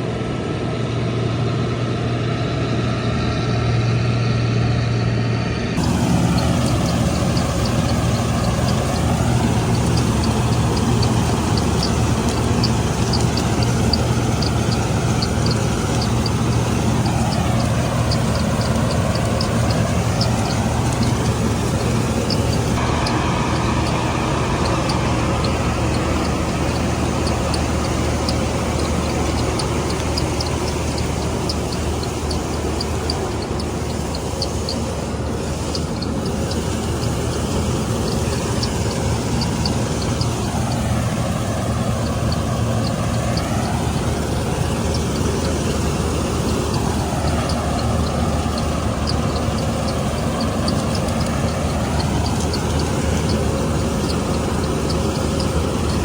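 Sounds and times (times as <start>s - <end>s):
diesel engine hum: 0.0s - 56.0s
threshing machinery ticking clatter: 5.8s - 56.0s.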